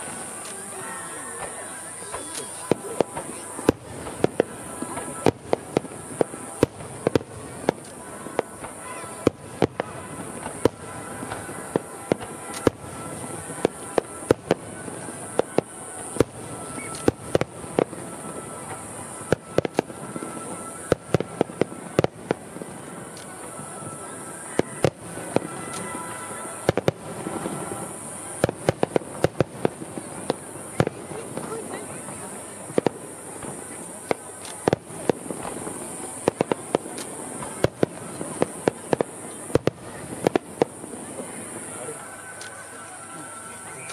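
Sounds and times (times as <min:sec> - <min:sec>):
fireworks bursting with sharp bangs: 0:00.0 - 0:43.9.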